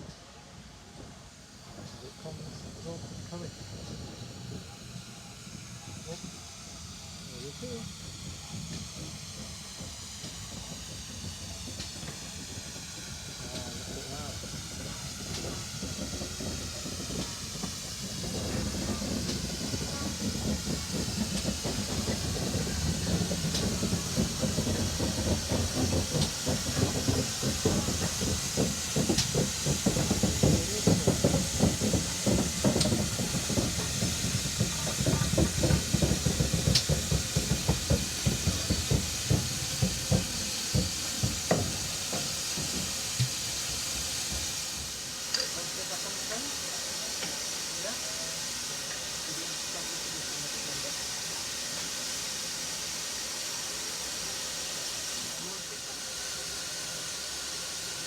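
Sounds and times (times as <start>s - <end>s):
steam locomotive hissing: 0.0s - 58.0s
rhythmic train beating: 1.0s - 47.7s.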